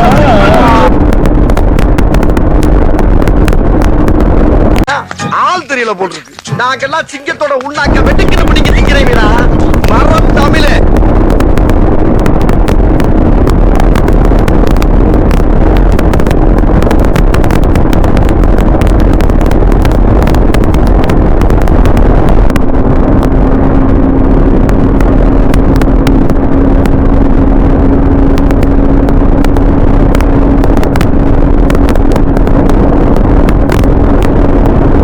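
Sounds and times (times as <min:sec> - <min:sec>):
wind noise on microphone: 0:00.0 - 0:04.9, 0:07.8 - 0:35.0.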